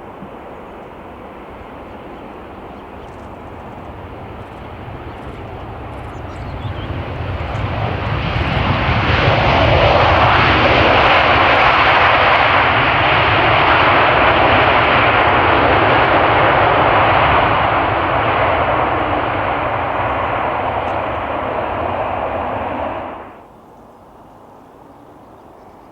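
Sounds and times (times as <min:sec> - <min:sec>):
jet airliner engines roaring: 0:00.0 - 0:23.5.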